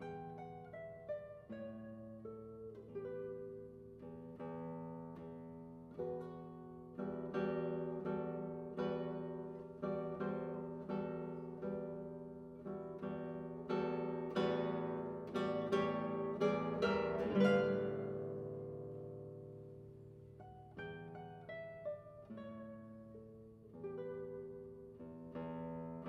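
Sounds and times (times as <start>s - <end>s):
classical guitar playing: 0.0s - 26.0s.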